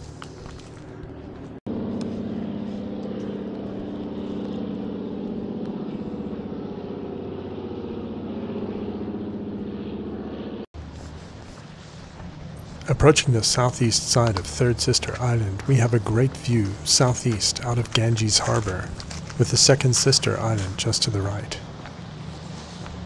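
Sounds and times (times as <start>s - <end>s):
faint outdoor ambience: 0.0s - 23.0s
motor hum: 0.0s - 23.0s.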